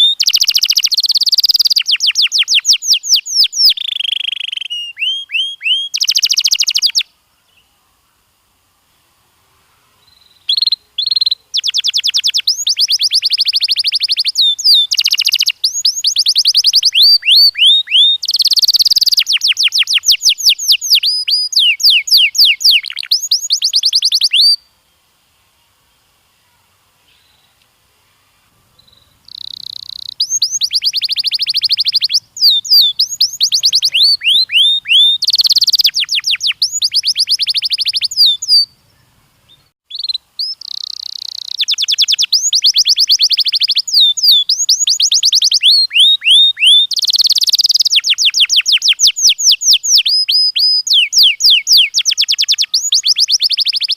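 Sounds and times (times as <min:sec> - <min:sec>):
canary singing trills: 0:00.0 - 0:07.7, 0:10.0 - 0:24.7, 0:28.5 - 0:53.9.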